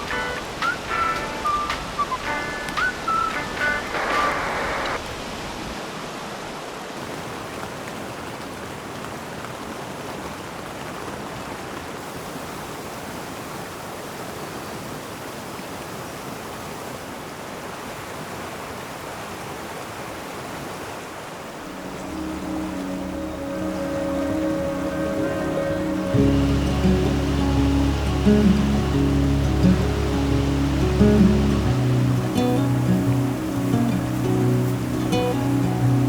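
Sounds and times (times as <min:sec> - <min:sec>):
mountain river rushing: 0:00.0 - 0:36.0.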